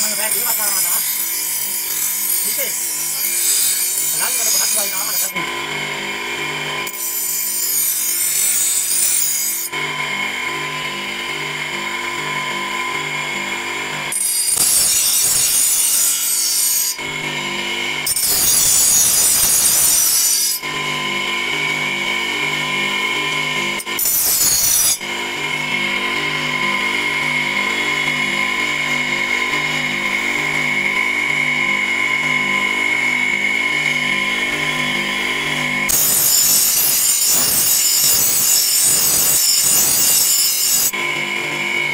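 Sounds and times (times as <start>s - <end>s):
grinder disc grinding steel: 0.0s - 41.9s.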